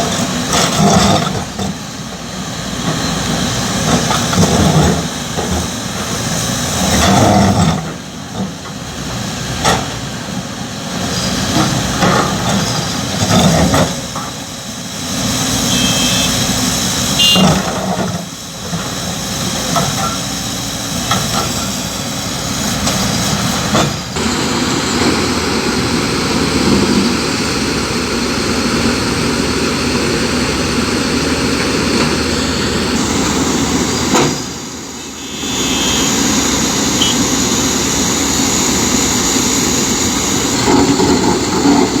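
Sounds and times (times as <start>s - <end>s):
excavator diesel engines under load: 0.0s - 42.0s.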